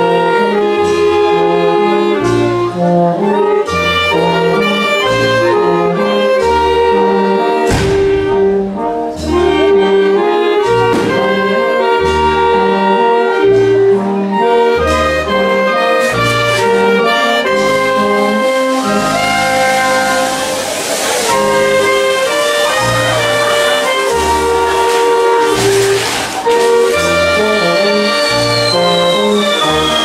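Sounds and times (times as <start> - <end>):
wind band playing held chords: 0.0 - 30.0.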